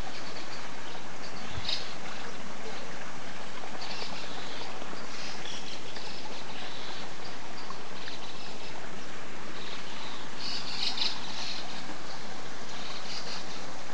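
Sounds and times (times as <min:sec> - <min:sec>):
river water flowing: 0:00.0 - 0:13.9
small songbirds chirping: 0:00.0 - 0:13.9.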